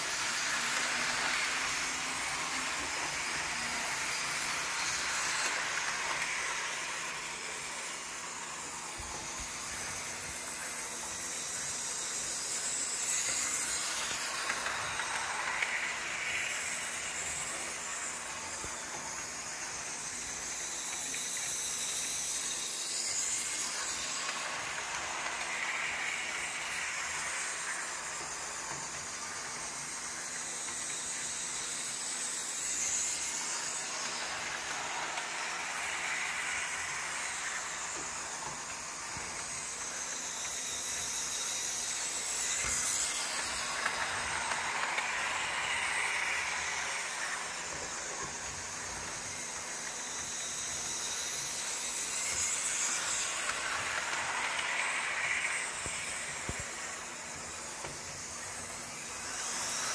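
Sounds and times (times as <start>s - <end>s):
toy train motor whirring: 0.0s - 59.9s.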